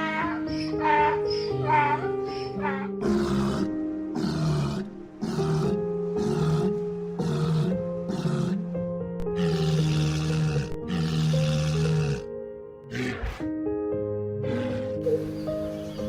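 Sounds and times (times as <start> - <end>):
large animal grunting calls: 0.0 - 12.3, 12.9 - 13.5, 14.4 - 16.0
background music: 0.0 - 16.0.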